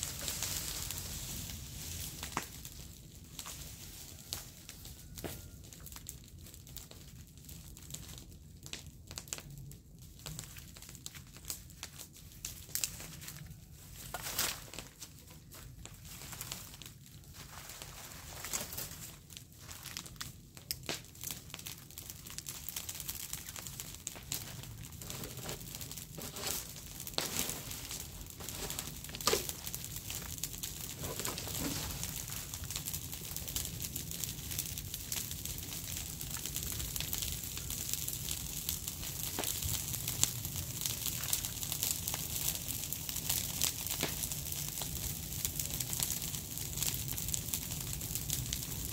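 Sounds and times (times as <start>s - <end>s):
dry leaves crinkling: 0.0s - 5.8s, 10.4s - 48.9s
burning leaves crackling: 0.0s - 48.9s.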